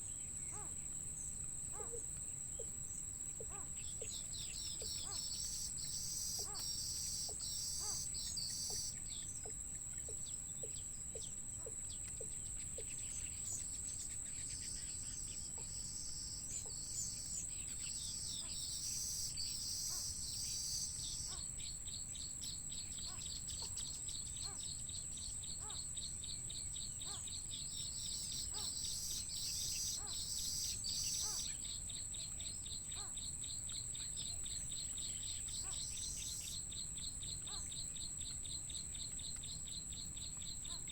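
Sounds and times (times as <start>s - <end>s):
insects trilling: 0.1s - 40.9s.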